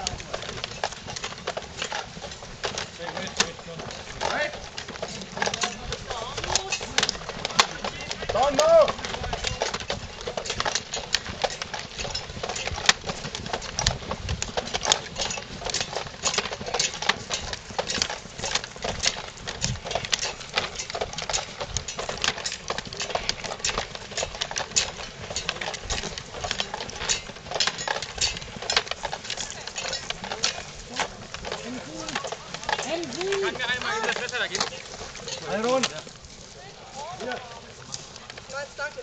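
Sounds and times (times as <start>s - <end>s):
footsteps on dirt path: 0.0s - 39.0s
gear rattling on backpacks: 0.0s - 39.0s.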